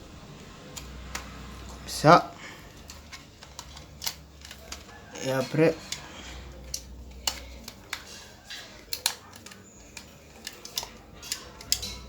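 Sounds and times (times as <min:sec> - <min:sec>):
plastic parts clicking and knocking: 0:00.7 - 0:12.0.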